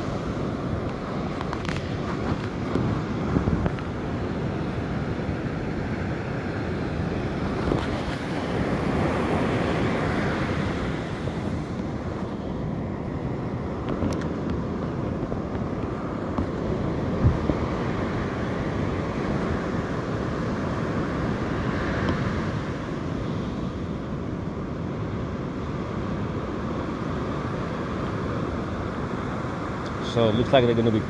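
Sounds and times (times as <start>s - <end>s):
ocean surf breaking: 0.0s - 31.0s
wind buffeting microphone: 0.0s - 31.0s.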